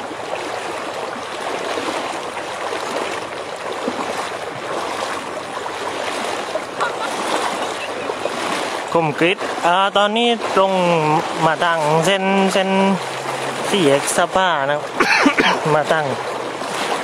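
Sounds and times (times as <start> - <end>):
floodwater rushing across road: 0.0 - 17.0.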